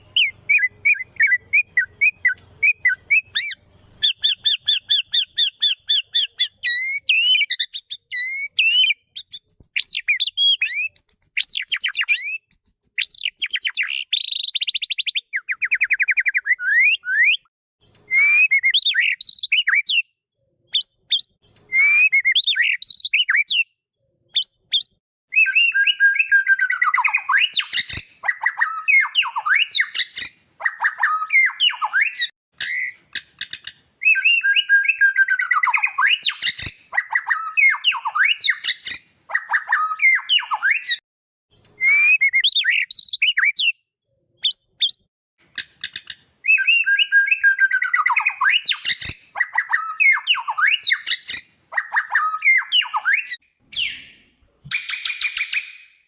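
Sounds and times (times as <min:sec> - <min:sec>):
songbird singing whistled trills: 0:00.0 - 0:41.0, 0:41.6 - 0:43.8, 0:44.4 - 0:56.0.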